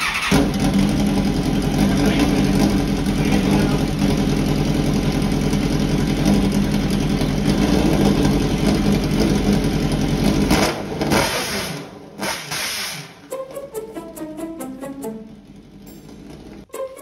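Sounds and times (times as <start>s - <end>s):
motorcycle engine running: 0.0s - 12.6s, 15.2s - 16.7s.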